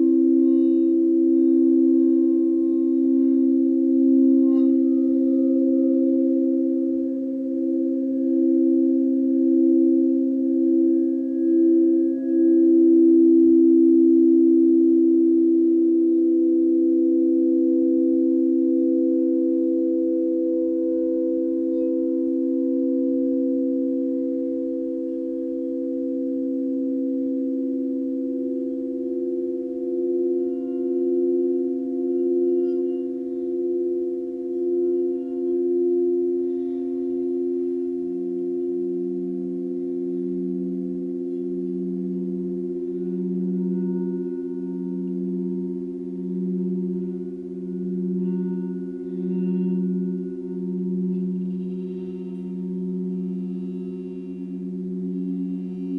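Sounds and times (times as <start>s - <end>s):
sustained pure tone drone: 0.0s - 55.9s.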